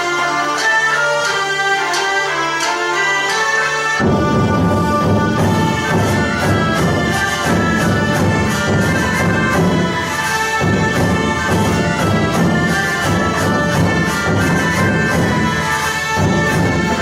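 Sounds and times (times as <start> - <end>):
orchestral music with brass: 0.0 - 17.0.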